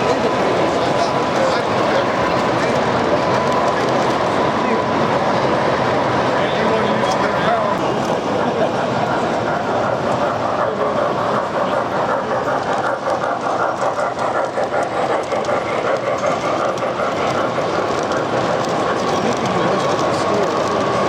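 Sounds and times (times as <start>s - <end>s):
model train wheel clatter: 0.0s - 5.6s, 6.4s - 21.0s.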